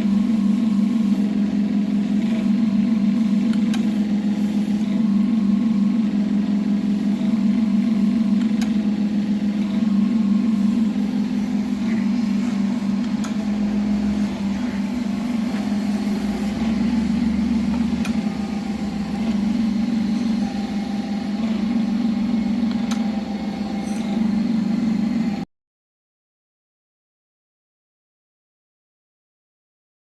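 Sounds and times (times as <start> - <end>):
hydraulic fixture low hum: 0.0 - 25.5.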